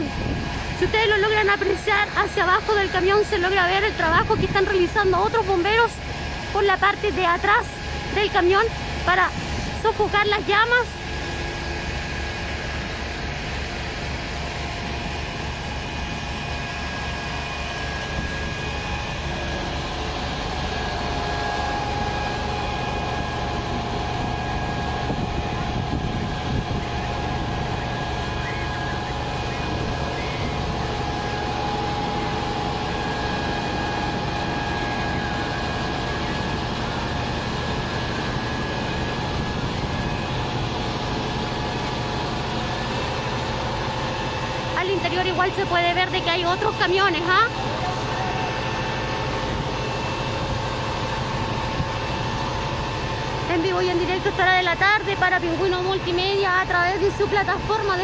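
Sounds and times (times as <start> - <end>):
fire engine pump motor running: 0.0 - 58.0.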